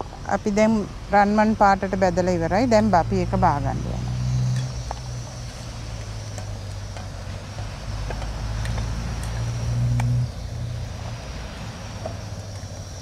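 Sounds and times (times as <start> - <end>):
low motor drone: 0.0 - 13.0.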